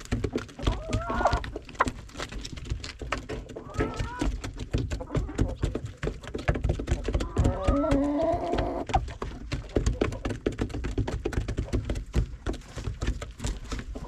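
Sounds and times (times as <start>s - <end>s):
walking knocks and rustles: 0.0s - 14.0s.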